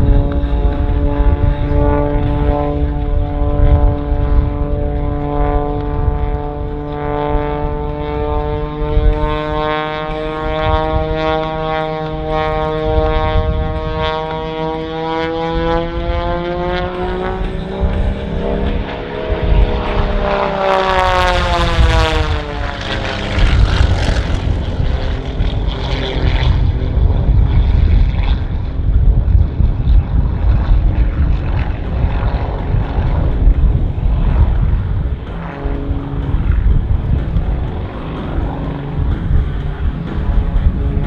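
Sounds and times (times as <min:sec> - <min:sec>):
biplane engine and propeller: 0:00.0 - 0:41.0.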